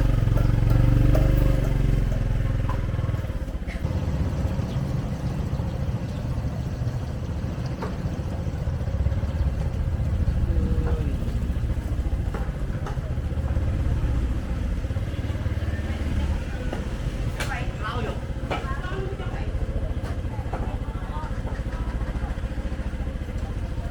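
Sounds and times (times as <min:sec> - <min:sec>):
traffic engines rumbling: 0:00.0 - 0:23.9.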